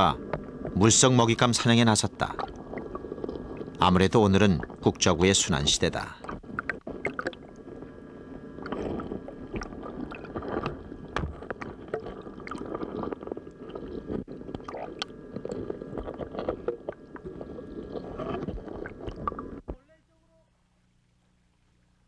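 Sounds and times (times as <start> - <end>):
faint steady whine: 0.0 - 22.0
muffled underwater sloshing: 0.1 - 19.8.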